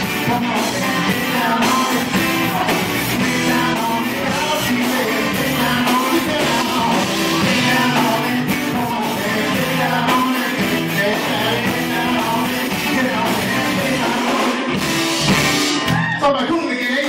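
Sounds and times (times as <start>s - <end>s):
bass guitar: 0.0s - 17.0s
drum kit: 0.0s - 17.0s
electric guitar: 0.0s - 17.0s
man singing lead: 0.0s - 17.0s.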